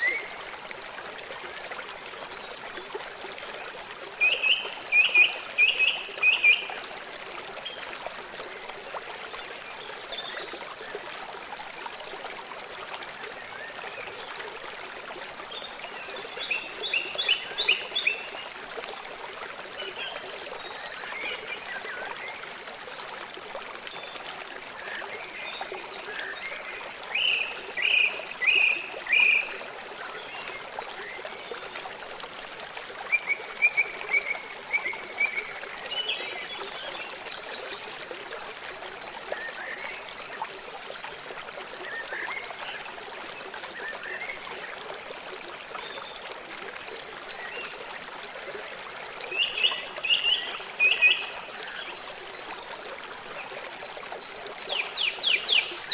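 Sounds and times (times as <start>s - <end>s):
stream trickling: 0.0s - 55.9s.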